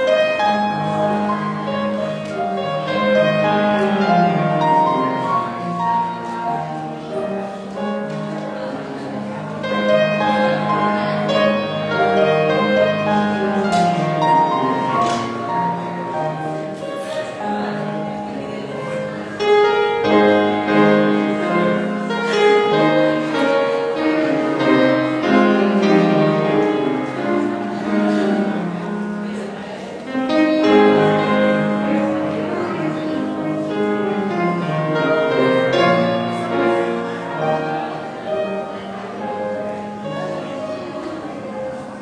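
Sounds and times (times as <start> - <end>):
piano playing full chords: 0.0 - 42.0.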